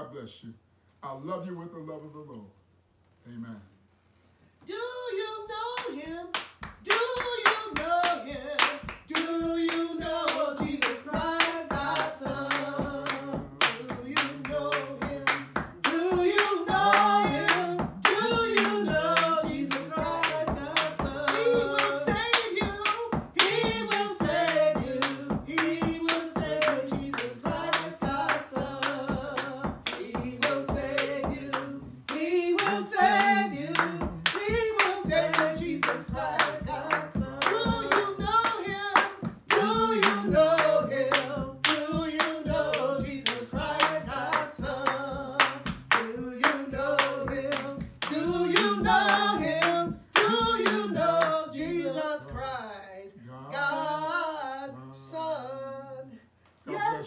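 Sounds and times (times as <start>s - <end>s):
voices singing gospel song: 4.6s - 57.0s
hand clapping: 5.8s - 52.2s.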